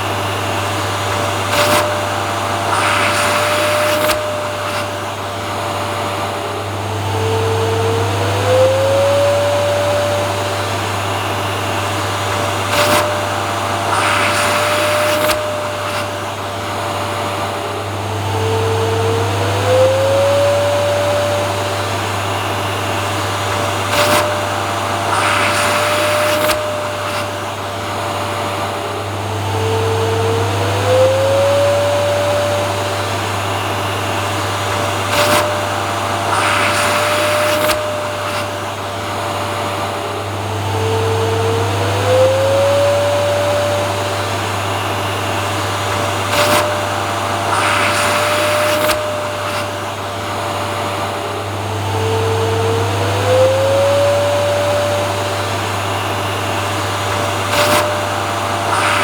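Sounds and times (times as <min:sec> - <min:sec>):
vacuum cleaner motor: 0:00.0 - 0:59.0.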